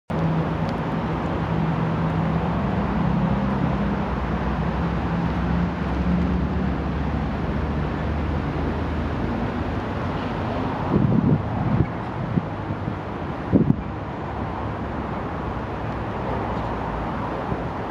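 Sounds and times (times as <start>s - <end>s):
low engine hum: 0.1s - 17.9s
traffic noise: 0.1s - 17.9s.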